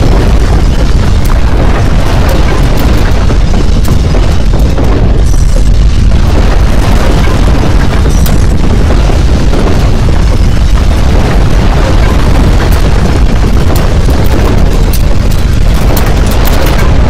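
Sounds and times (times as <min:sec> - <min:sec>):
deep earthquake rumbling: 0:00.0 - 0:17.0.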